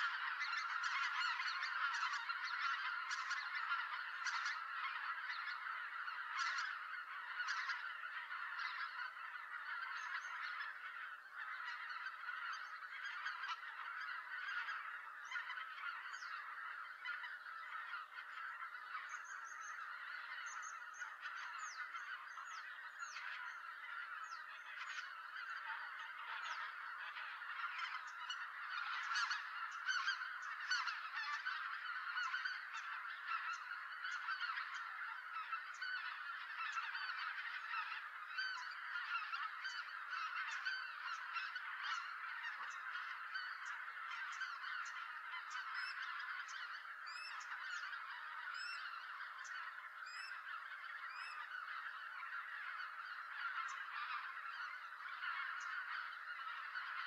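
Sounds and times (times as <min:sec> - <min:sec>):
flock of geese honking: 0:00.0 - 0:57.0.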